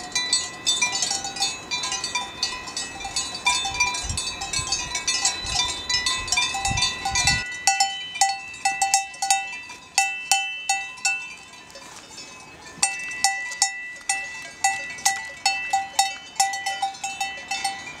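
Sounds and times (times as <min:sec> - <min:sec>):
close cowbell struck sharply: 0:00.0 - 0:11.6, 0:12.7 - 0:18.0
cowbells clanking: 0:00.0 - 0:18.0.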